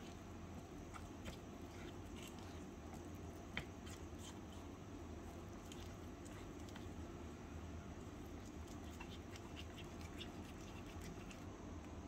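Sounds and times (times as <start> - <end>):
spatula stirring thick batter: 0.0 - 11.5.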